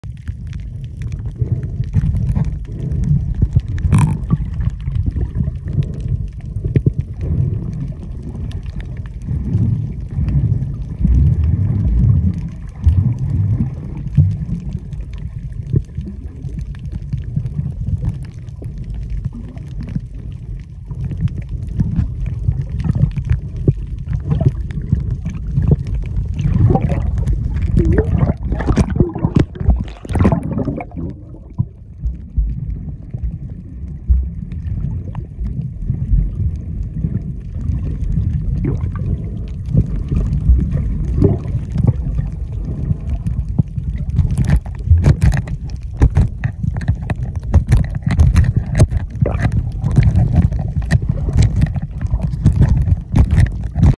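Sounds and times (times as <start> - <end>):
muffled underwater water rumble: 0.0 - 54.0
sharp underwater clicks and crackles: 0.0 - 54.0.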